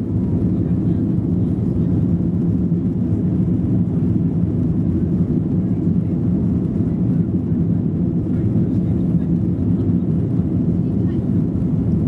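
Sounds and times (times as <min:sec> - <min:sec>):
aircraft cabin engine noise: 0:00.0 - 0:12.0.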